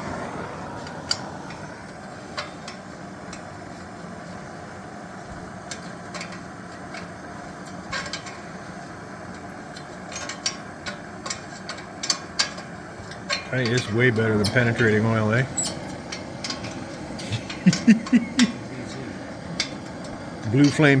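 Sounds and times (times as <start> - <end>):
gas torch burning: 0.0 - 21.0.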